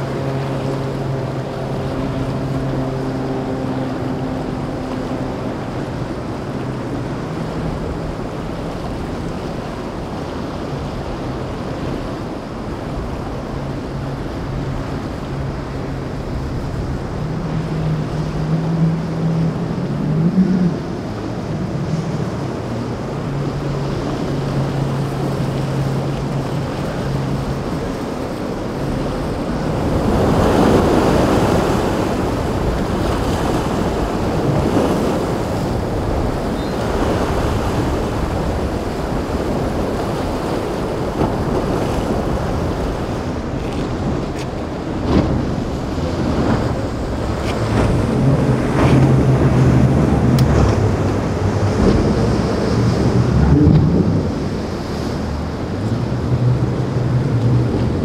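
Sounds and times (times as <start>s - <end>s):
boat motors humming: 0.0s - 58.0s
waves breaking: 0.0s - 58.0s
wind buffeting microphone: 0.0s - 58.0s.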